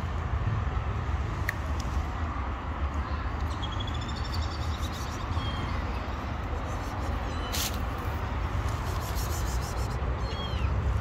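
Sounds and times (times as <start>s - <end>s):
steady low street rumble: 0.0s - 11.0s.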